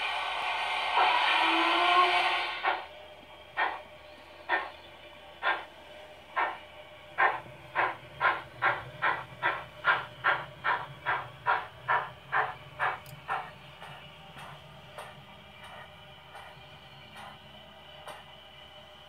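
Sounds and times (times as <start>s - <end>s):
model locomotive steam chuffs: 0.0s - 19.0s.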